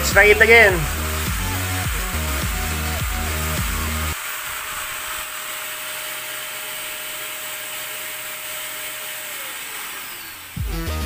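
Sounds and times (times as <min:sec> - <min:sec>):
vacuum cleaner motor winding down: 0:00.0 - 0:11.0.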